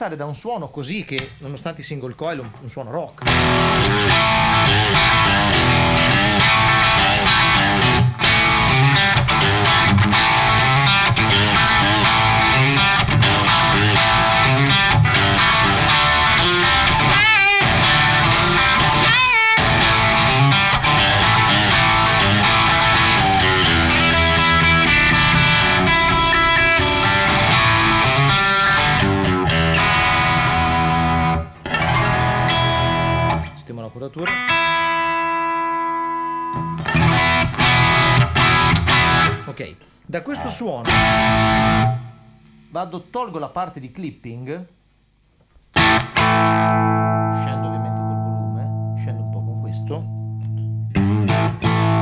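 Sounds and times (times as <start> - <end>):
overdriven electric guitar: 3.2 - 33.6, 34.2 - 39.5, 40.4 - 42.7, 45.7 - 52.0.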